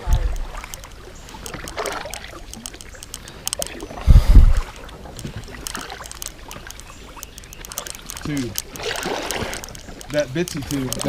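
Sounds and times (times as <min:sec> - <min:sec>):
light water sounds: 0:00.0 - 0:11.0
small clicks: 0:00.0 - 0:11.0.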